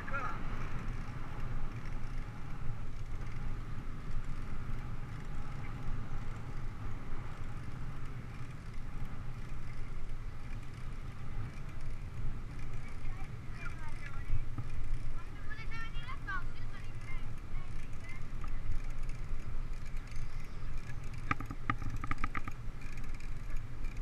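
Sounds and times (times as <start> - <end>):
bicycle rolling on pavement: 0.0 - 24.0.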